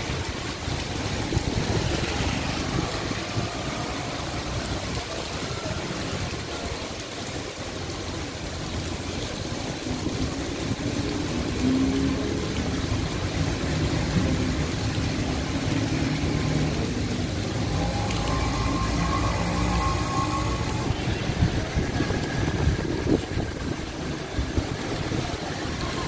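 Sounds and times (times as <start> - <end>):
rain on a wet road: 0.0 - 26.0
traffic: 0.0 - 26.0.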